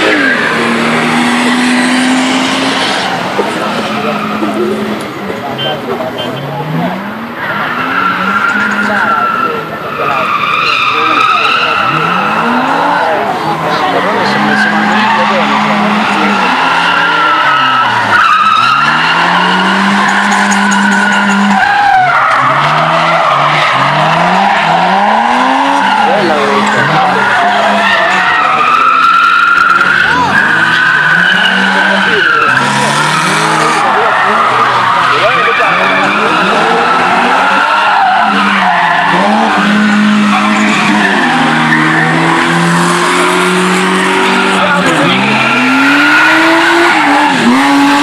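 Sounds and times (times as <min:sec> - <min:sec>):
car engines revving hard: 0:00.0 - 0:48.0
tyres squealing: 0:00.0 - 0:48.0.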